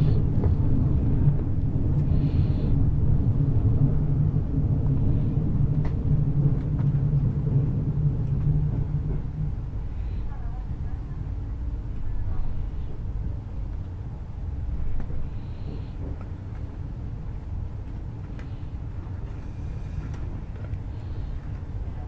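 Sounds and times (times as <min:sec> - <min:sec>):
train rumbling from inside carriage: 0:00.0 - 0:22.0.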